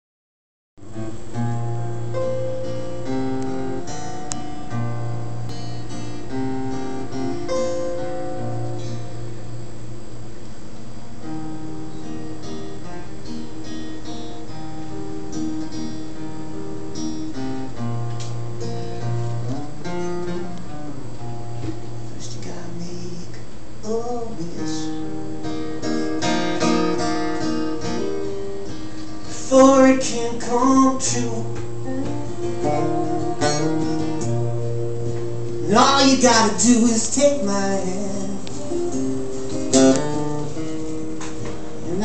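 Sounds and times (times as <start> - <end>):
acoustic guitar playing: 0.8 - 42.0.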